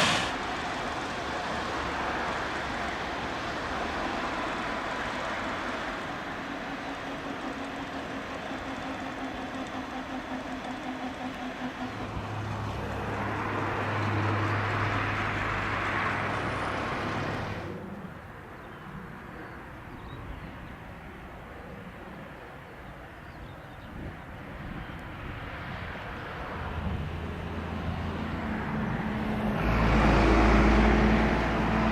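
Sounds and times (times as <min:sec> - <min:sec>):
outdoor background noise: 0:00.0 - 0:31.9.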